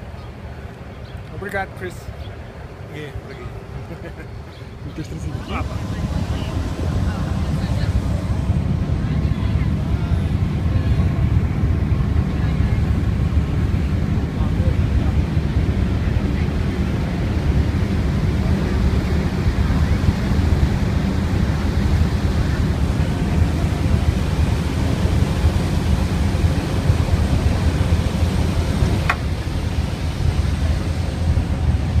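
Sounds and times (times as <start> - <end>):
boat engine: 0.0 - 32.0
wind rumble on microphone: 3.8 - 32.0
rushing water: 5.1 - 32.0.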